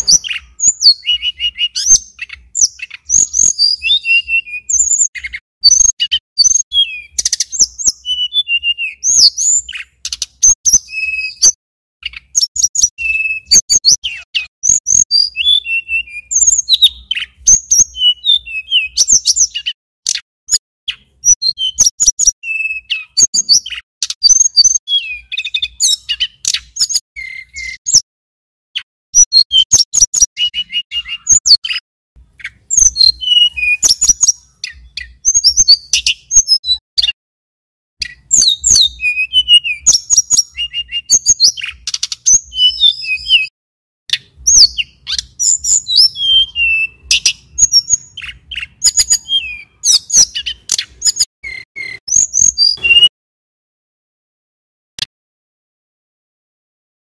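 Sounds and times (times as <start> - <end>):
bird singing chirps and trills: 0.0 - 28.1, 28.8 - 37.2, 38.0 - 43.5, 44.1 - 53.1.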